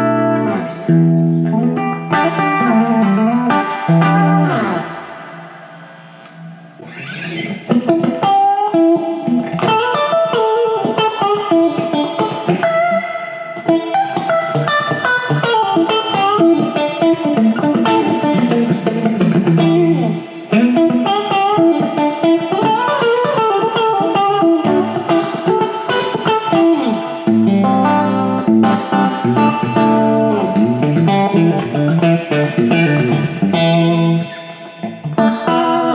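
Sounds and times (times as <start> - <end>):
electric guitar playing: 0.0 - 35.9.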